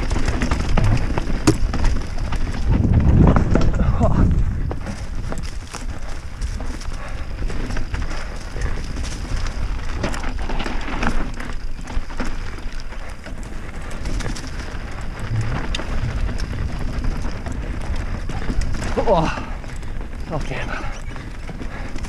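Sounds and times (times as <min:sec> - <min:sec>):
bike clicks and rattles: 0:00.0 - 0:22.0
tyres crunching over dirt: 0:00.0 - 0:22.0
wind buffeting microphone: 0:00.0 - 0:22.0.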